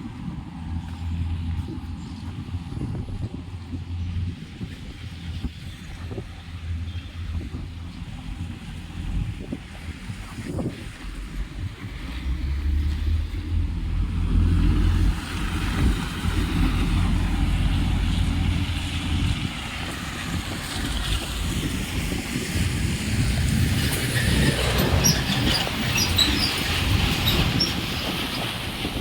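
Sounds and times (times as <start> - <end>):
heavy vehicle engine rumble: 0.0 - 29.0.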